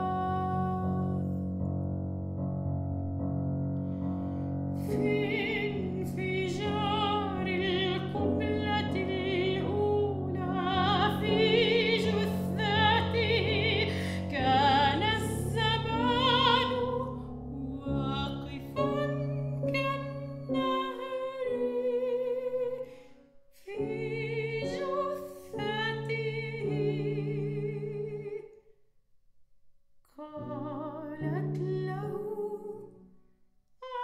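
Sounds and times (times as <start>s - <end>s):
soprano singing: 0.0s - 1.7s, 4.7s - 28.7s, 30.1s - 33.2s
grand piano accompaniment: 0.0s - 28.4s.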